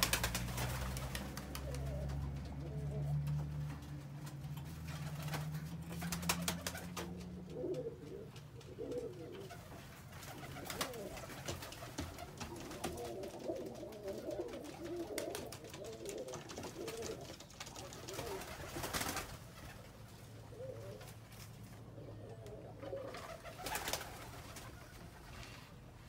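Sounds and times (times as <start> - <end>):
wing flaps: 0.0 - 20.0, 22.9 - 25.6
pigeons cooing: 0.0 - 25.9.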